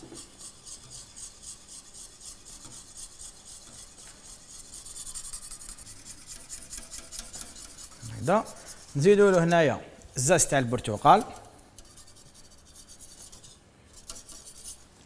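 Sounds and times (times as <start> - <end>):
whisk scraping a saucepan: 0.0 - 9.6, 11.3 - 14.9.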